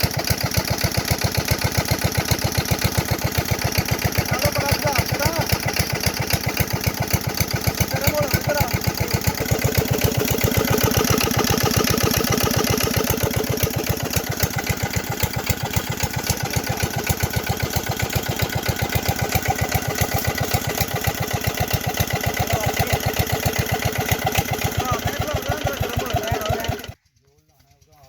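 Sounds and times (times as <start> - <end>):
stationary diesel engine running: 0.0 - 28.0.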